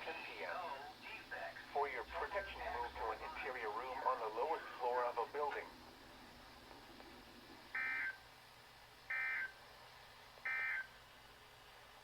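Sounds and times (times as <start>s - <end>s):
faint radio hiss: 0.0s - 12.0s.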